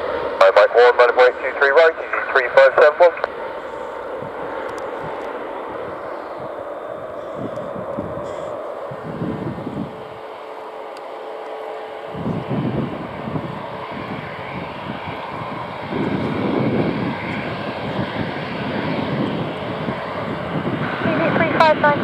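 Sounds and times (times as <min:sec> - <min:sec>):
jet engine whine: 0:00.0 - 0:22.0
low uneven rumble: 0:00.4 - 0:22.0.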